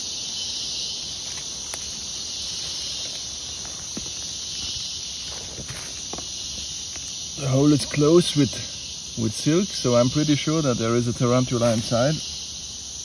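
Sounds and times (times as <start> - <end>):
rainforest insects buzzing: 0.0 - 13.0.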